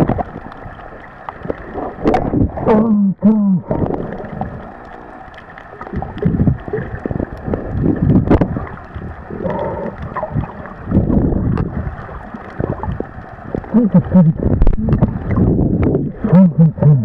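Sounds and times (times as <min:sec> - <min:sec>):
underwater water sloshing: 0:00.0 - 0:03.0, 0:03.6 - 0:17.0.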